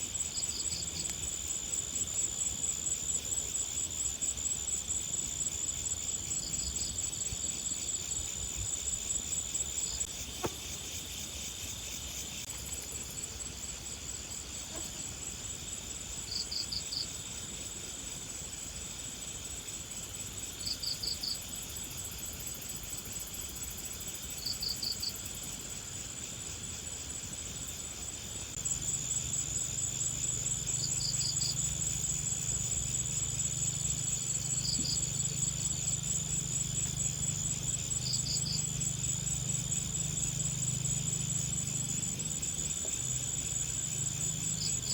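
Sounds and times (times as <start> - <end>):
insects trilling: 0.0 - 44.9
low insect buzz: 0.0 - 44.9.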